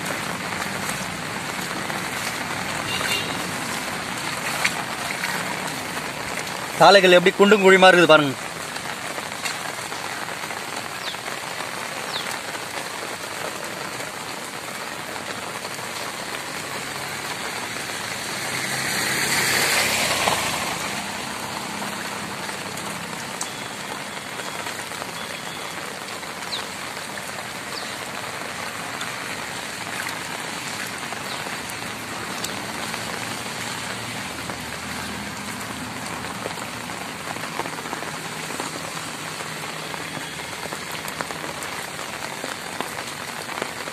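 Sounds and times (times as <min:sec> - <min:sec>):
heavy rain on flooded road: 0:00.0 - 0:43.9.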